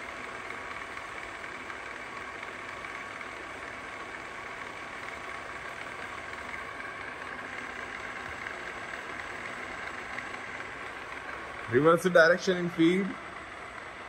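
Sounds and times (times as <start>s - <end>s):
drill mechanical hum: 0.0s - 14.0s
faint steady whine: 0.0s - 14.0s.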